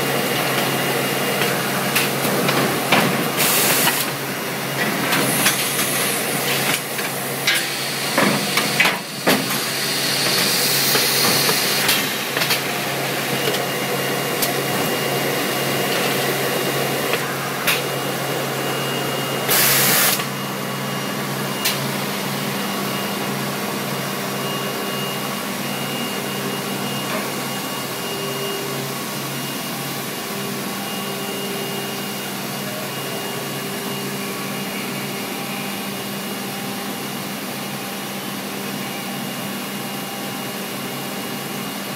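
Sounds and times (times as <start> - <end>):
bagging machinery running: 0.0 - 41.9.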